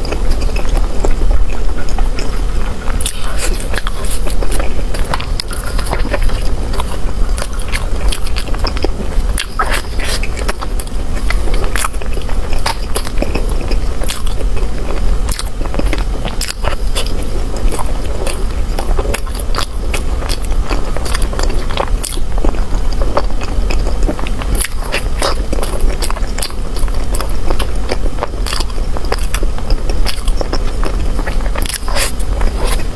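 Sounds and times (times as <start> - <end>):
person chewing bread: 0.0 - 32.9
steady low hum: 0.0 - 32.9.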